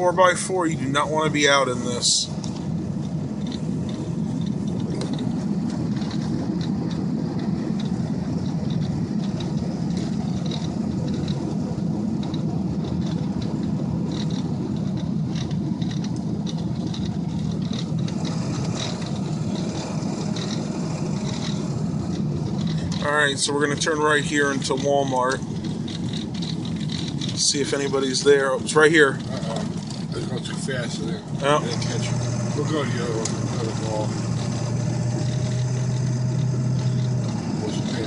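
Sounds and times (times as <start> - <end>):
pickup truck road noise: 0.0 - 38.0.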